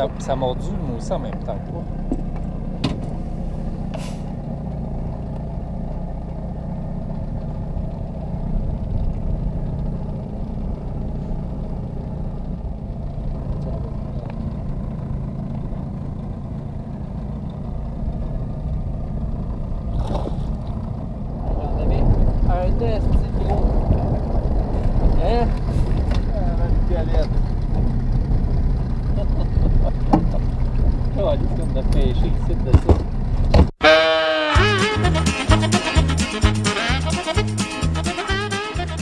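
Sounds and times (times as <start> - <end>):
boat motor rumbling: 0.0 - 39.0.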